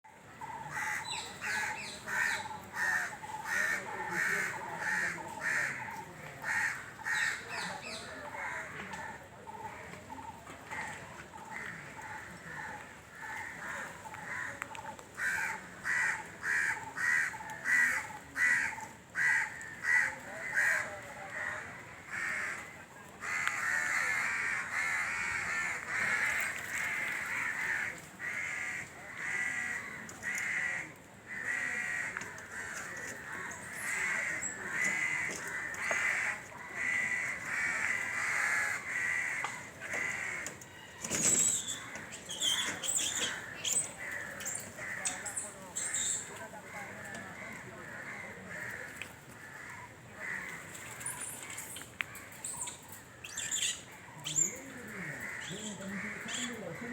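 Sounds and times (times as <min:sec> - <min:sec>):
crows cawing: 0:00.4 - 0:51.1, 0:52.0 - 0:56.9.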